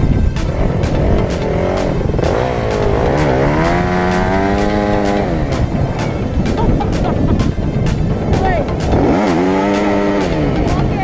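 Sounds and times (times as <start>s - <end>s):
dirtbike engine revving: 0.0s - 11.0s.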